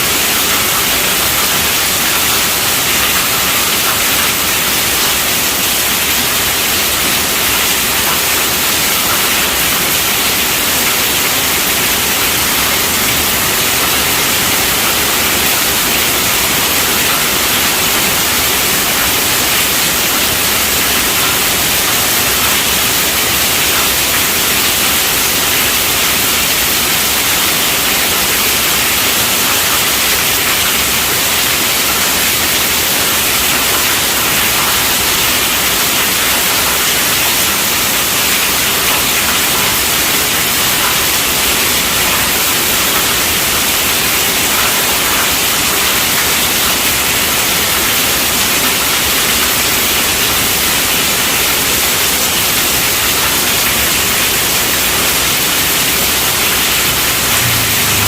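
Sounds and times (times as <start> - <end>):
heavy rain on a tent roof: 0.0 - 58.0.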